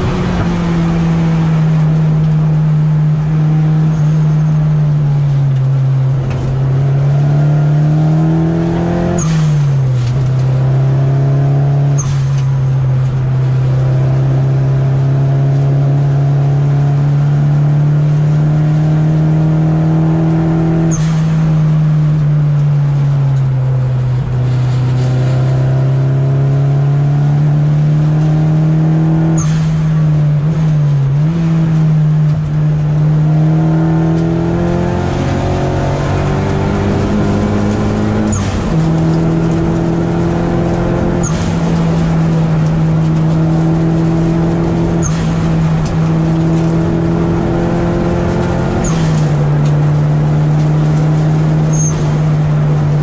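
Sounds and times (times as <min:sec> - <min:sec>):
car engine running: 0:00.0 - 0:17.2, 0:27.6 - 0:53.0.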